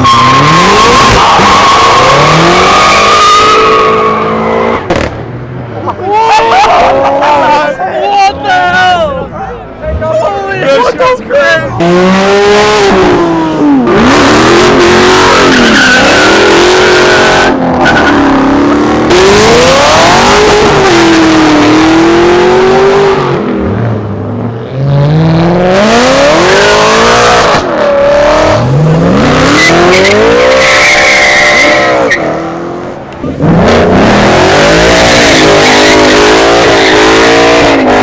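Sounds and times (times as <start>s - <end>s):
car engine revving hard: 0.0s - 5.2s, 11.8s - 38.0s.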